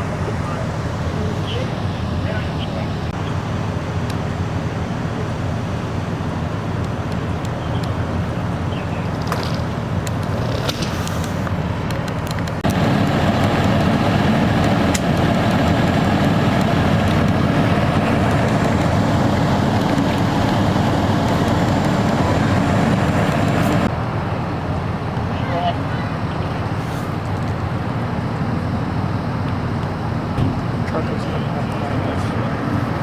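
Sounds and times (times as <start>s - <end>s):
deep engine drone: 0.0s - 33.0s
vehicle engines and road noise: 0.0s - 33.0s.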